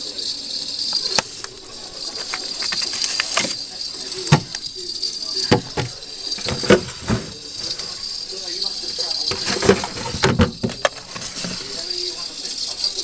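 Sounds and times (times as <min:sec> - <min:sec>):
utensils knocking and clattering: 0:00.8 - 0:13.0.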